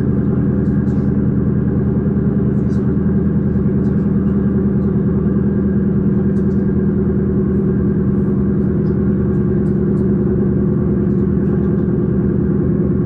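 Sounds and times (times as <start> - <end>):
electric train running hum: 0.0 - 13.0.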